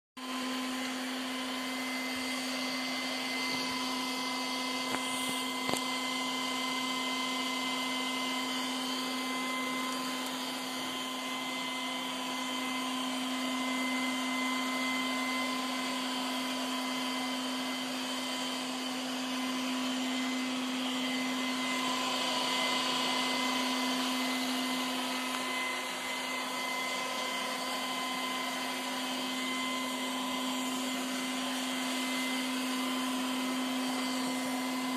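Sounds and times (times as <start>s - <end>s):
robot vacuum motor hum: 0.2s - 34.9s.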